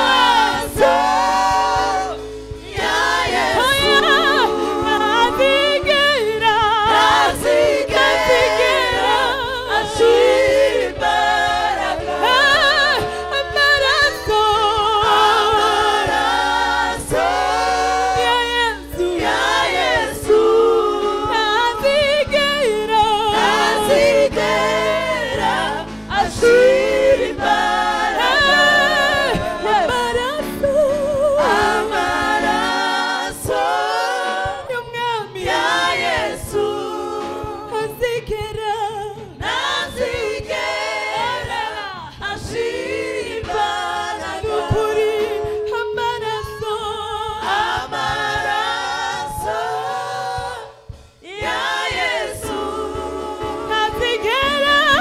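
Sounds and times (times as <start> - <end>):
group singing gospel in harmony: 0.0 - 55.0.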